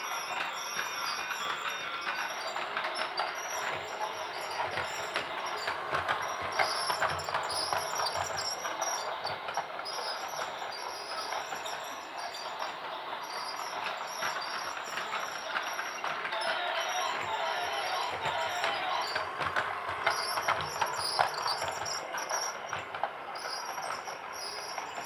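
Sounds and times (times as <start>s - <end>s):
toy train clattering: 0.0s - 25.0s.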